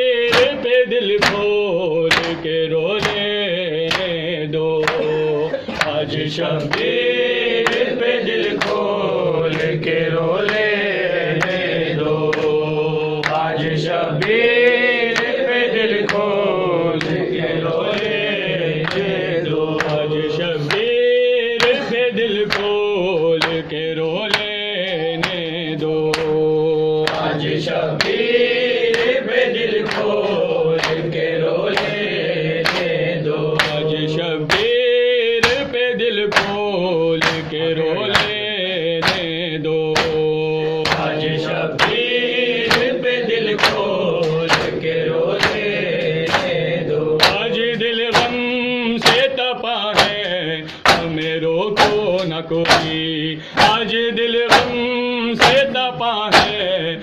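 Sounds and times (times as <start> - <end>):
group chanting a lament: 0.0 - 57.0
hands slapping chests: 0.2 - 4.2, 4.8 - 21.0, 21.6 - 22.8, 23.4 - 25.4, 26.0 - 26.4, 27.0 - 56.7.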